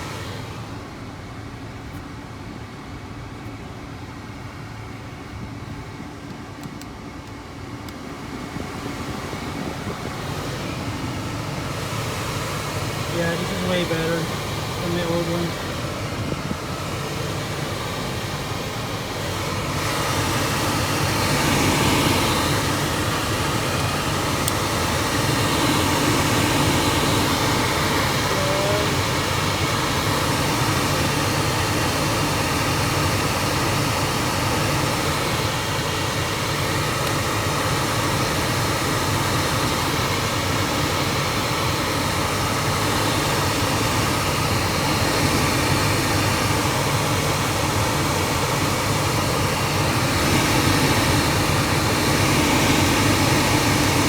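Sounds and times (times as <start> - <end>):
heater blower fan rushing air: 0.0 - 54.0.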